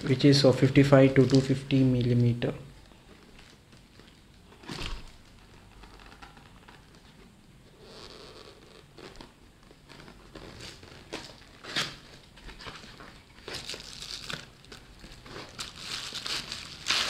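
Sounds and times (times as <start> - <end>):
bubble wrap crinkling: 1.0 - 1.6, 2.8 - 17.0.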